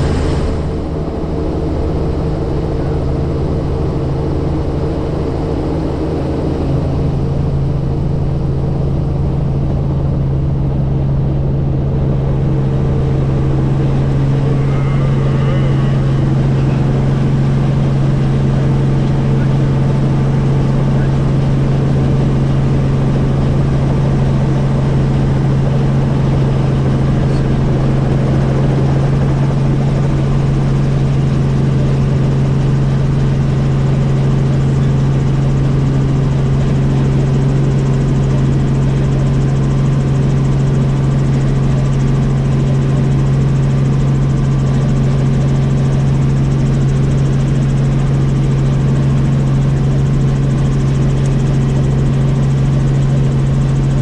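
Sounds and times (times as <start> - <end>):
helicopter rotors and engine drone: 0.0 - 54.0.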